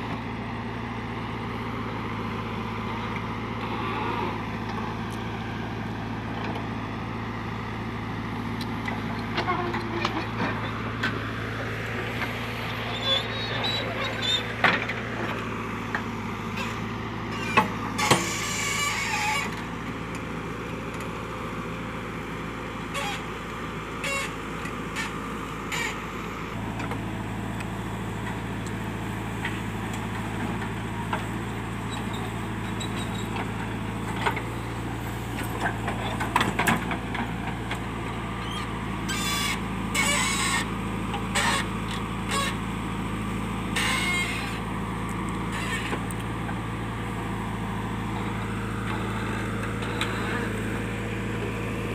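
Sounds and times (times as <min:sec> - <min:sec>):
backhoe loader digging: 0:00.0 - 0:51.9
tractor idling: 0:00.0 - 0:51.9.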